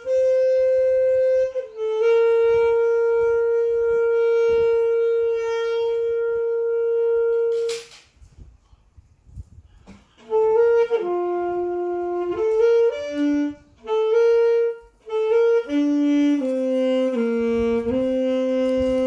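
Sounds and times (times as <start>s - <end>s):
saxophone slow melody: 0.0s - 7.8s, 9.8s - 19.0s.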